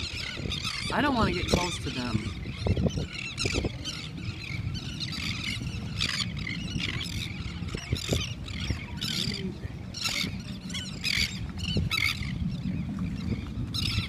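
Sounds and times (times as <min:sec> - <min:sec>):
gulls calling: 0:00.0 - 0:14.0
low rumble of wind and water: 0:00.0 - 0:14.0.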